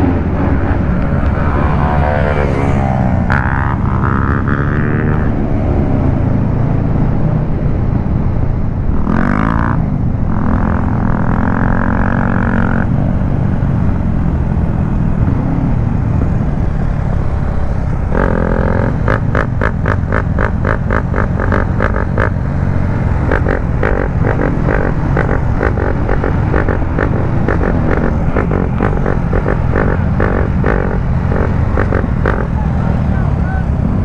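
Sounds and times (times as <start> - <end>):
motorcycle engines running: 0.0 - 34.0.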